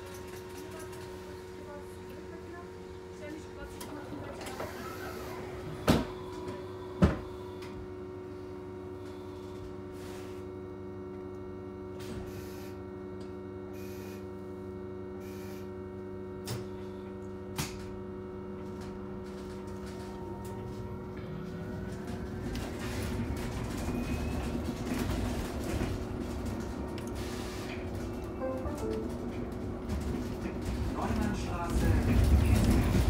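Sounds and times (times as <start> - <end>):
electric bus hum: 0.0 - 33.0.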